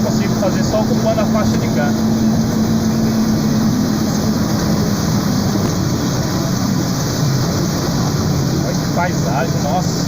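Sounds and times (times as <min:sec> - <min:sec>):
truck engine low rumble: 0:00.0 - 0:10.0.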